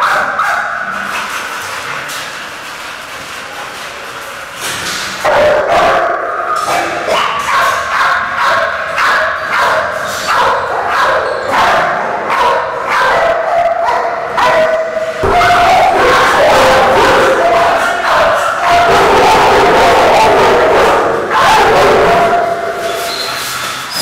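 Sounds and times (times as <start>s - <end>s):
dogs barking and yelping: 0.0s - 1.3s, 5.2s - 24.0s.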